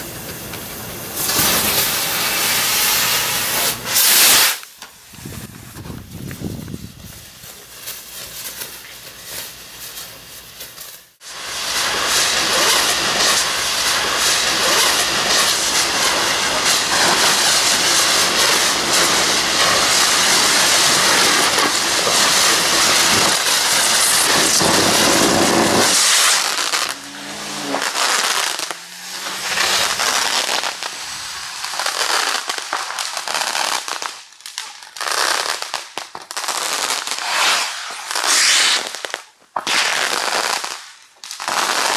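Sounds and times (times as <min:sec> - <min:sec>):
fireworks crackles and pops: 0:00.0 - 0:41.9
fireworks fizzing rush: 0:00.0 - 0:41.9.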